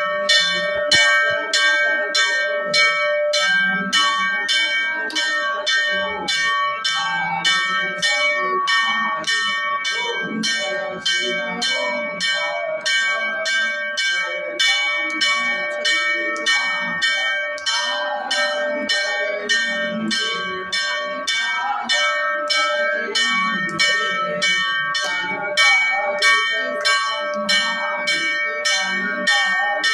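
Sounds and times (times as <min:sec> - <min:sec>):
bell rung by hand: 0:00.0 - 0:29.9.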